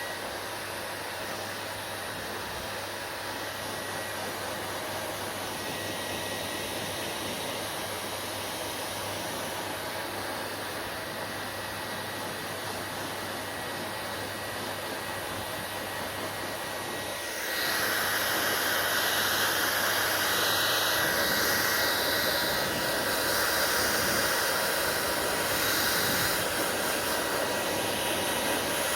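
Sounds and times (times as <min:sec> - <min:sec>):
hair dryer blowing: 0:00.0 - 0:28.9.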